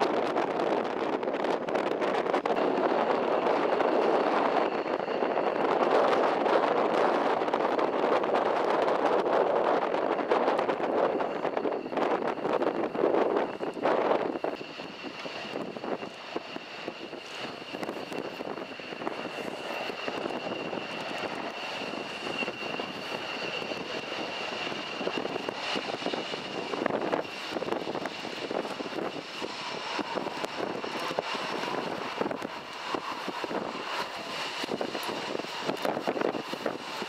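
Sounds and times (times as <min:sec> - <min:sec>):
helicopter engine whine: 0:00.0 - 0:37.0
helicopter rotors: 0:00.0 - 0:37.0
low helicopter tone: 0:00.0 - 0:37.0.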